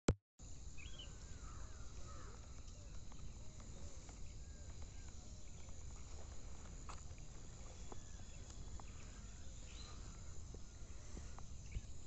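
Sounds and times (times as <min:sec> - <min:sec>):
birds chirping and whistling: 0:00.7 - 0:01.7, 0:02.4 - 0:12.0.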